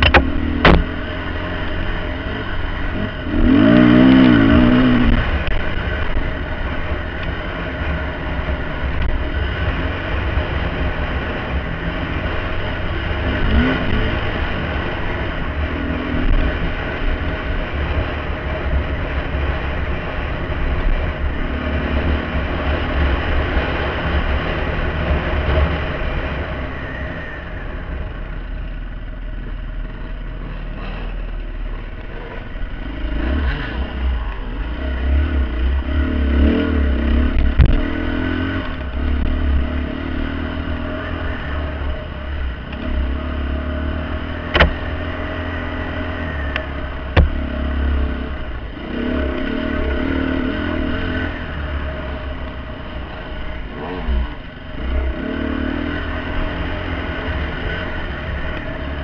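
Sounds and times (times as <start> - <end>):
dirt bike engine: 0.0 - 59.0.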